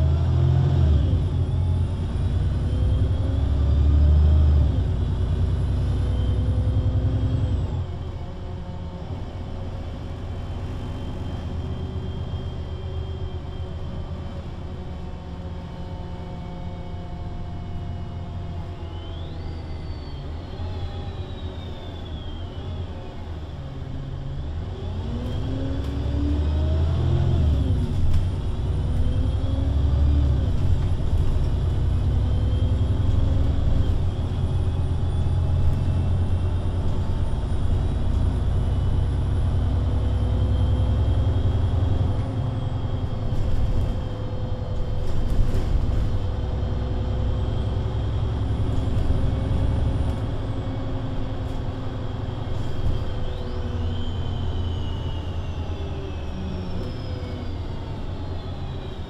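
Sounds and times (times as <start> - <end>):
bus engine from inside cabin: 0.0 - 59.0.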